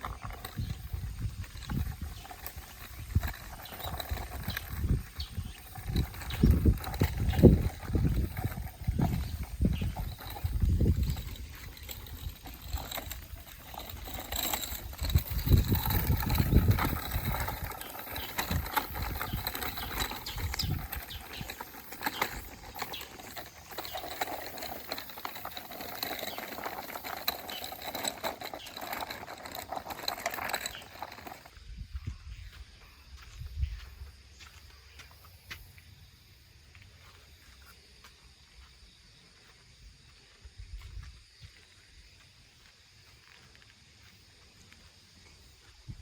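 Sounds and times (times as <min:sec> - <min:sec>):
paws and footsteps on ground: 0:00.0 - 0:35.9, 0:36.7 - 0:46.0.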